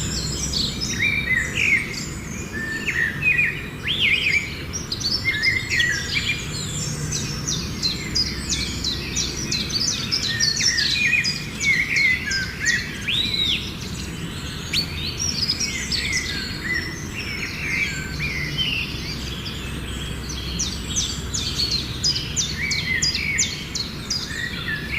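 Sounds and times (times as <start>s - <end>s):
birds singing and calling: 0.0s - 24.9s.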